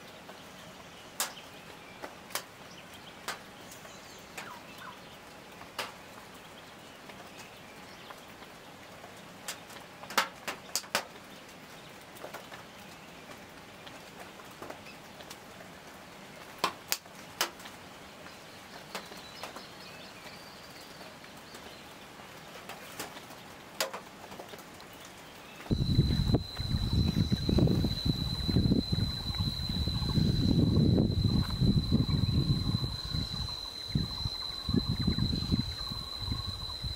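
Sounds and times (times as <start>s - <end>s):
steady forest hiss: 0.0s - 36.9s.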